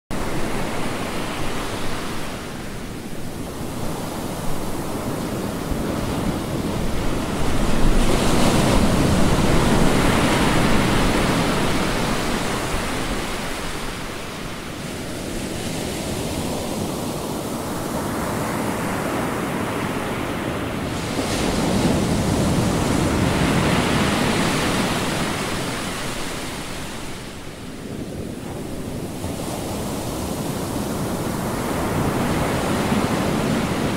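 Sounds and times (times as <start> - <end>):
ocean waves crashing: 0.1 - 33.9.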